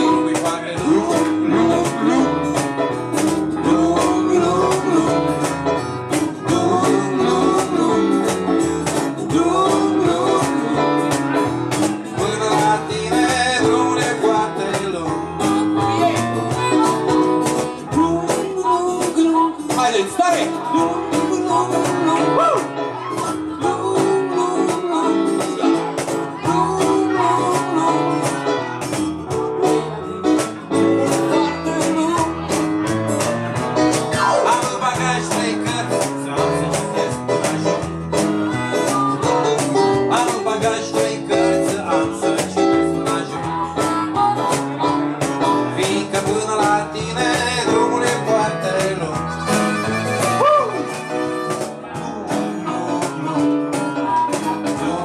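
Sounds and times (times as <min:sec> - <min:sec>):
acoustic guitar: 0:00.0 - 0:55.0.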